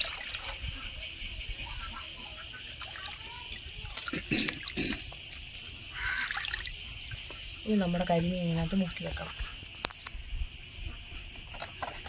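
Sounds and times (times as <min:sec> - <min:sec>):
water splashing in a basin: 0:00.0 - 0:09.5, 0:11.4 - 0:12.0
high insect chirring: 0:00.1 - 0:12.0.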